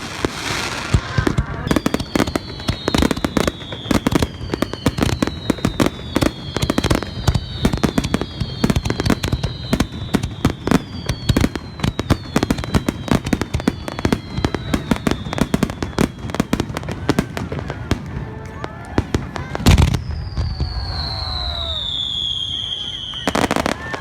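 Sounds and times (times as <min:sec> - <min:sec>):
whistling firework shells: 0:00.0 - 0:17.9, 0:18.5 - 0:24.0
fireworks bangs and crackling: 0:00.0 - 0:24.0.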